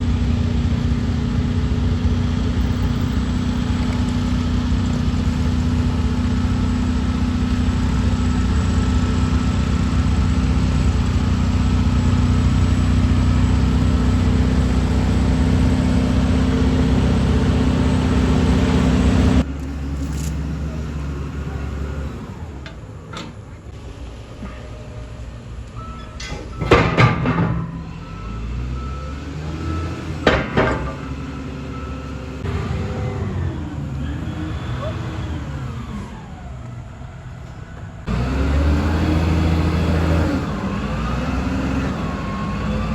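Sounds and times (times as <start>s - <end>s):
heavy diesel engine humming: 0.0s - 42.9s.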